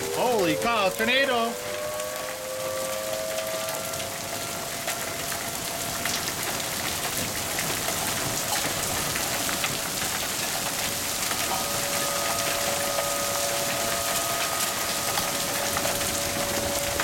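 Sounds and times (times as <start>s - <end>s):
hail and rain falling: 0.0s - 17.0s
tornado warning siren wailing: 0.0s - 17.0s.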